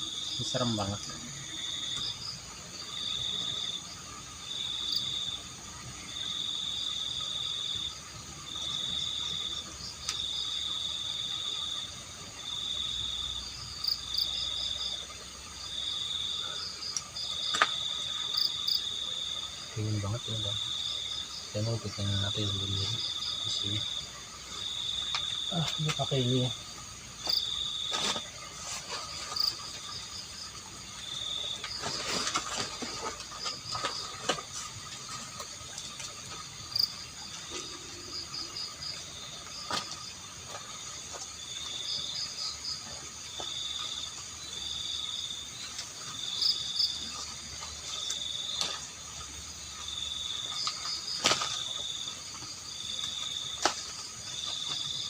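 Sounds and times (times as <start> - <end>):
fast pulsing insect call: 0.0 - 55.0
insects chirping in trills: 0.0 - 55.0.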